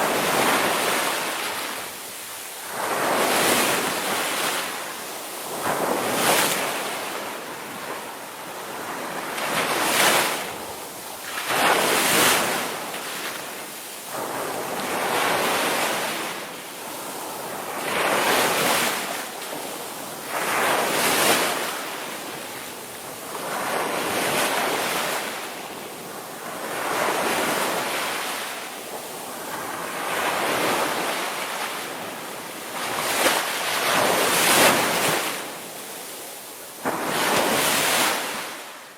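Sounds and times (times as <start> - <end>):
waves breaking on shore: 0.0 - 38.9.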